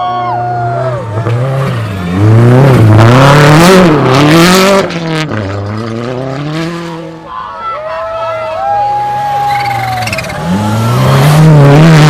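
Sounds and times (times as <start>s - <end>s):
rally car engine revving: 0.6s - 7.3s, 9.0s - 12.0s.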